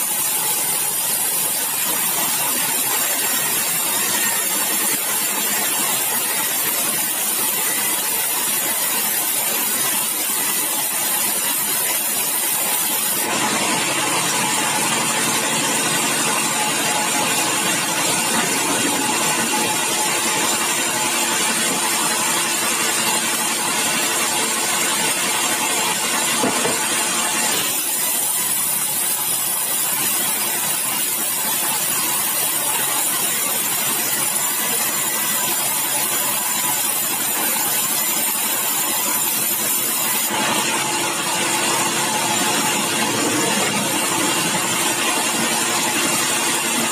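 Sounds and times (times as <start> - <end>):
band saw cutting timber: 0.0 - 46.9.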